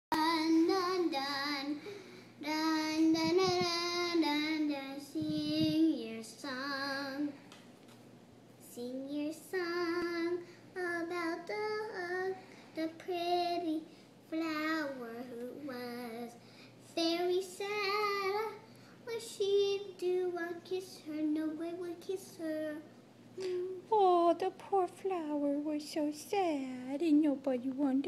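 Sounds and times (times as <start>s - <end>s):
girl singing unaccompanied: 0.1s - 7.5s, 8.6s - 23.9s.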